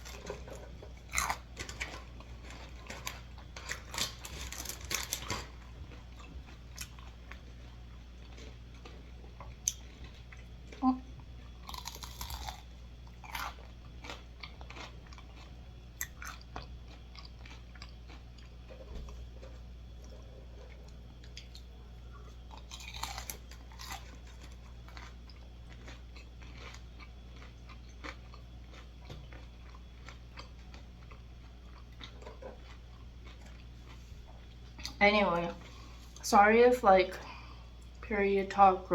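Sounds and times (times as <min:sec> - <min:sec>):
person chewing crunchy food: 0:00.0 - 0:35.0
steady low hum: 0:00.0 - 0:38.9.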